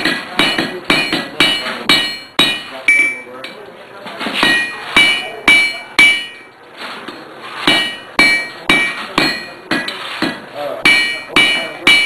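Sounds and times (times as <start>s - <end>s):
hammer striking iron on anvil: 0.0s - 3.6s, 4.4s - 6.5s, 7.6s - 12.0s.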